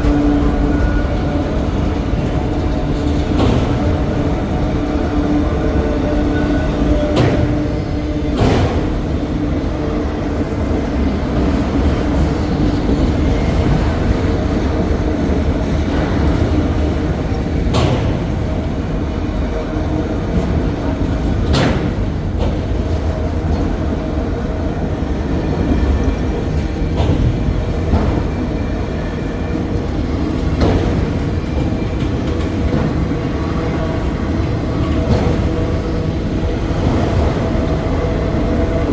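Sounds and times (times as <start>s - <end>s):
freight cars rolling: 0.0s - 38.9s
train wheels rumbling on rail: 0.0s - 38.9s.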